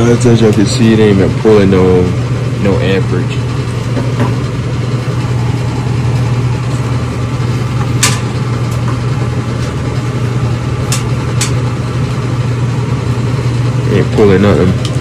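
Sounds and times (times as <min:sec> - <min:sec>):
display case fan hum: 0:00.0 - 0:15.0.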